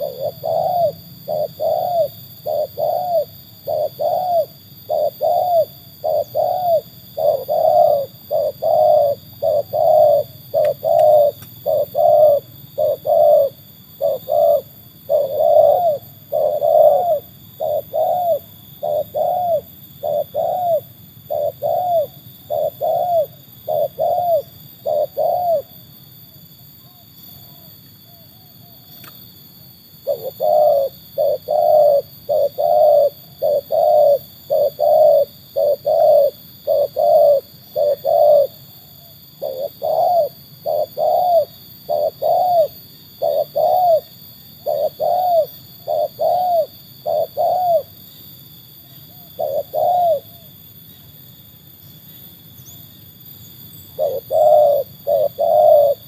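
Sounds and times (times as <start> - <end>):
dove cooing: 0.0 - 51.1, 53.6 - 56.0.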